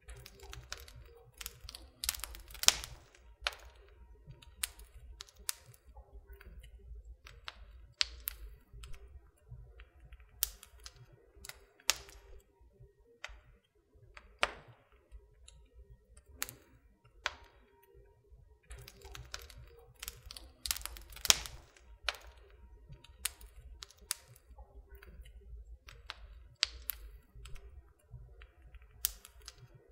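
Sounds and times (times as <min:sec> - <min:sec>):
low rumble of flames: 0:00.0 - 0:29.9
wood fire crackling and popping: 0:00.0 - 0:29.9.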